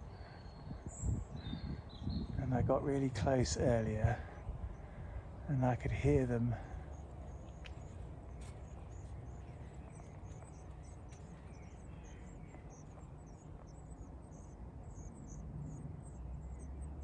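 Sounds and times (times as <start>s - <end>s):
baby birds cheeping: 0.0s - 17.0s
low background rumble: 0.0s - 17.0s.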